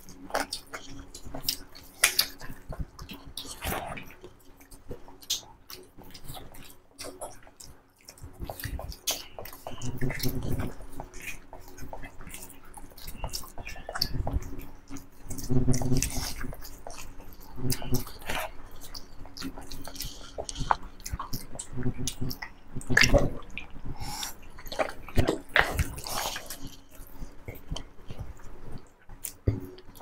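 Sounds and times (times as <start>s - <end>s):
chewing and mouth sounds: 0.0s - 30.0s.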